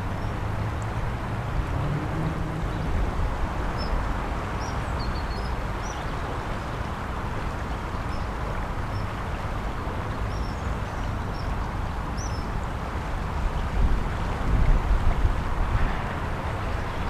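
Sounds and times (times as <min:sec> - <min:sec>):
river water rushing: 0:00.0 - 0:17.0
wind rumble on microphone: 0:00.0 - 0:17.0.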